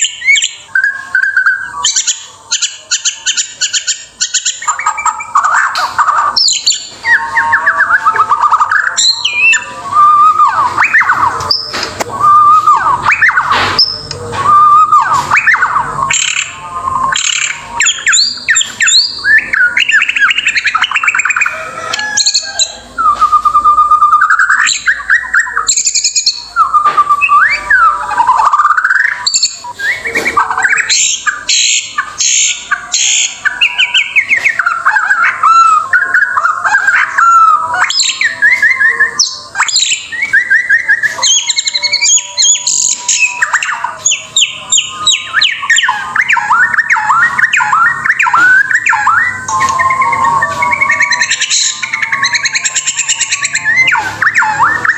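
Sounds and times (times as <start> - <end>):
songbird singing whistled phrases: 0.0 - 54.9.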